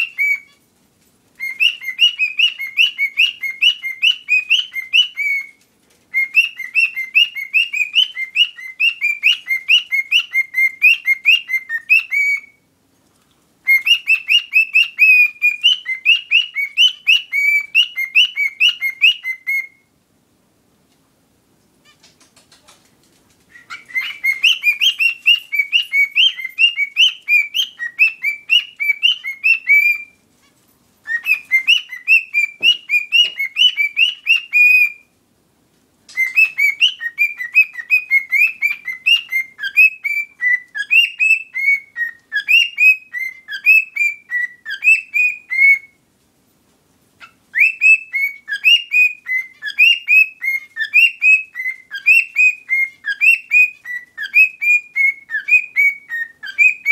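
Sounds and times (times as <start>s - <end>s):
cockatiel whistled chirps: 0.0s - 0.6s, 1.4s - 12.7s, 13.6s - 19.9s, 23.5s - 30.2s, 31.0s - 35.1s, 36.1s - 46.0s, 47.2s - 56.9s.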